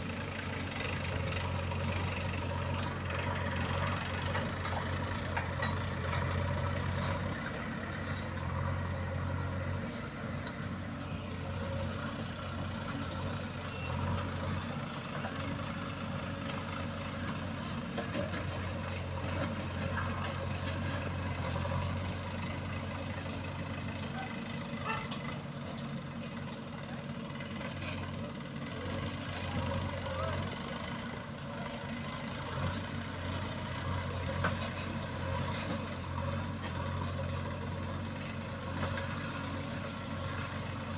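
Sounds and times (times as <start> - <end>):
diesel engine low hum: 0.0 - 40.9.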